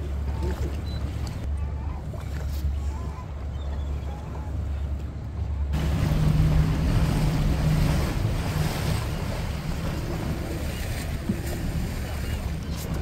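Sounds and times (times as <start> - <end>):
boat engine low drone: 0.0 - 13.0
sea wash: 0.0 - 13.0.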